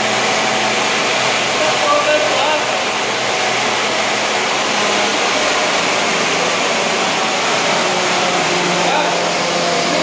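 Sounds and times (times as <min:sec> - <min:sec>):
wind tunnel fan blowing air: 0:00.0 - 0:10.0.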